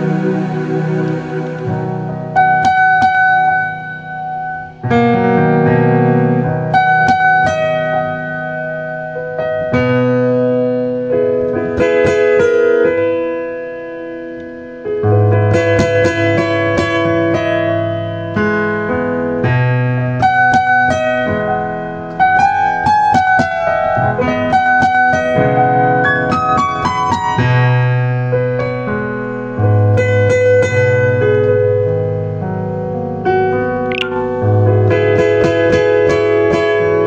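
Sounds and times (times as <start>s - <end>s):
solo piano playing: 0.0s - 37.0s.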